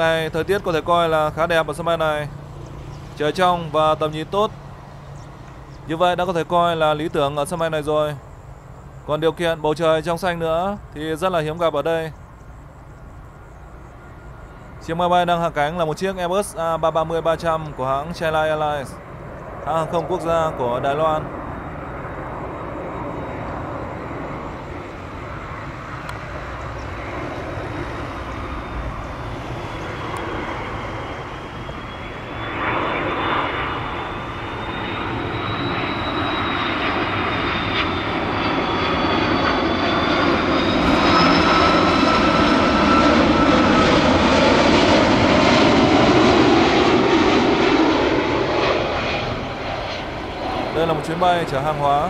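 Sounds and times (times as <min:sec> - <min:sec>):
airliner engine rumble: 0:00.0 - 0:52.0
thin whining engine tones: 0:00.0 - 0:52.0.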